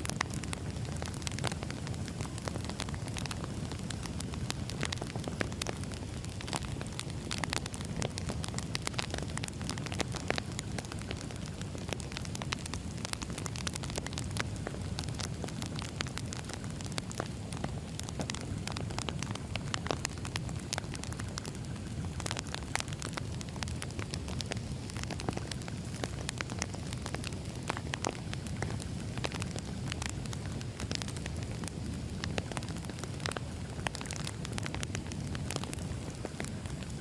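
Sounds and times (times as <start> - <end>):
firewood crackling and popping: 0.0 - 37.0.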